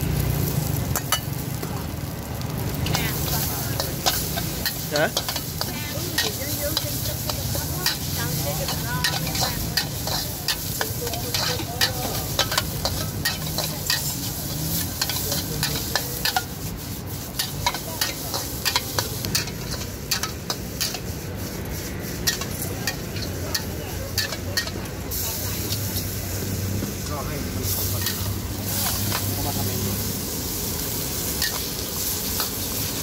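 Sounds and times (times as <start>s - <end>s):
noodles sizzling: 0.0s - 33.0s
metal spatula scraping a wok: 2.8s - 26.3s, 27.6s - 33.0s.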